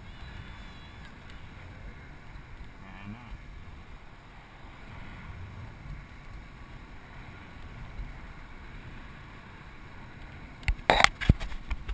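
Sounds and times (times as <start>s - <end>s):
wind rumble on microphone: 0.0s - 11.9s.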